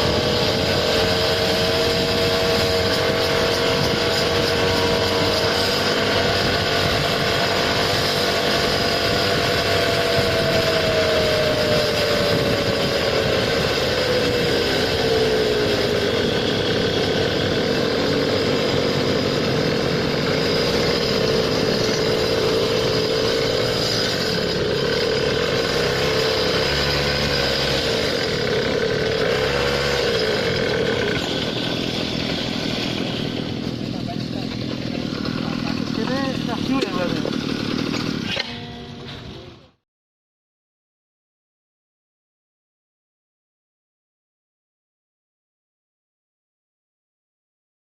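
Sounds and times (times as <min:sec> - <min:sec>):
motor scooter engine running: 0:00.0 - 0:39.7.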